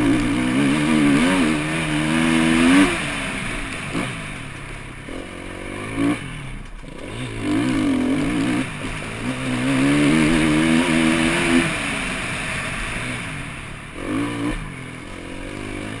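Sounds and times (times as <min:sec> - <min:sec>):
motorcycle engine revving: 0:00.0 - 0:16.0
steady rushing noise: 0:00.0 - 0:16.0.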